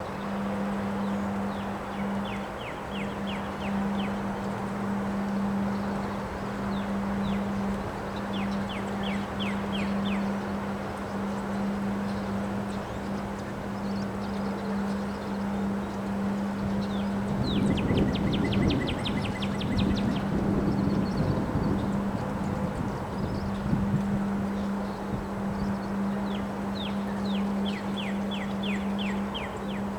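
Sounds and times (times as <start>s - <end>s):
birds chirping: 0.0s - 29.9s
steady low hum: 0.0s - 29.9s
wind buffeting microphone: 0.0s - 29.9s.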